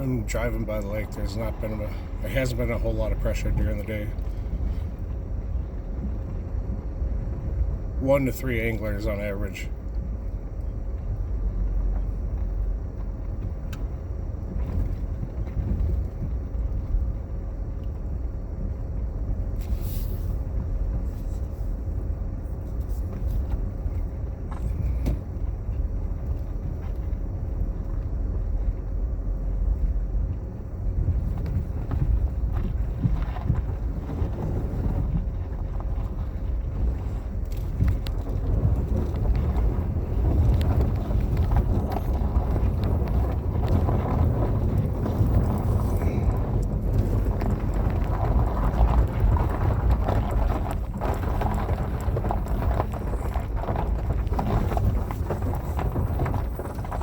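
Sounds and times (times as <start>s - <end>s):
faint steady hum: 0.0s - 57.0s
vehicle rumble from inside cab: 0.0s - 57.0s.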